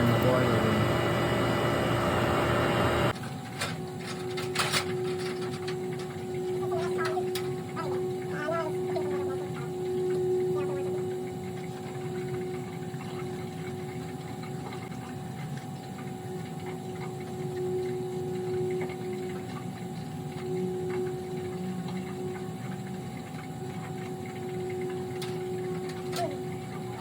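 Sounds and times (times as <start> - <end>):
boiler room equipment hum: 0.0 - 27.0.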